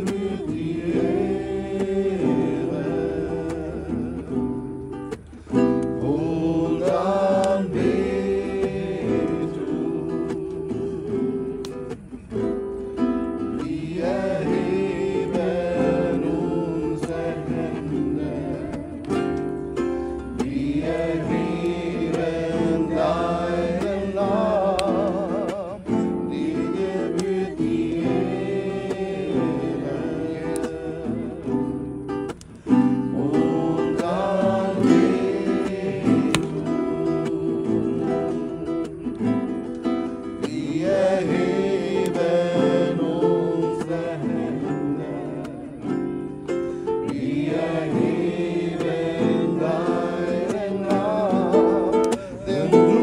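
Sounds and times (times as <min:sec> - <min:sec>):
group singing: 0:00.0 - 0:53.0
strummed acoustic guitar: 0:00.0 - 0:53.0.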